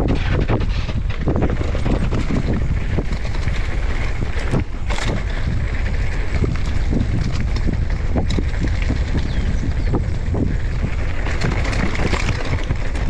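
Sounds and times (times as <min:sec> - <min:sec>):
bike knocking and rattling: 0:00.0 - 0:13.0
wind buffeting microphone: 0:00.0 - 0:13.0.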